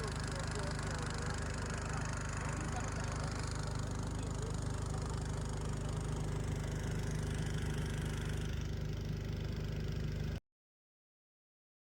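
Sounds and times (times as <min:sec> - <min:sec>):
engine running steadily: 0:00.0 - 0:10.4.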